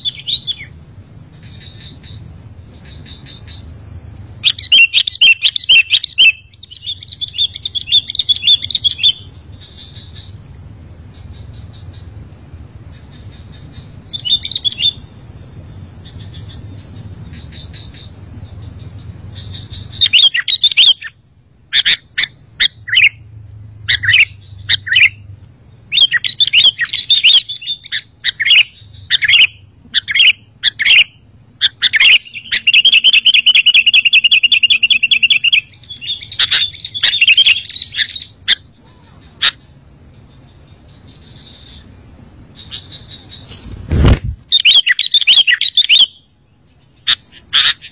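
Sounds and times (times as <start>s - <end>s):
bird chirping and trilling: 0.0s - 12.2s, 12.9s - 15.3s, 15.9s - 47.9s.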